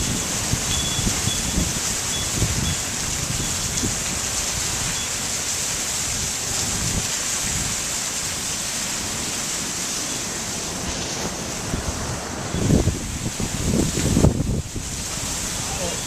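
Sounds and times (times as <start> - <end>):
heavy rain hissing: 0.0 - 16.0
wind gusts on microphone: 0.0 - 16.0.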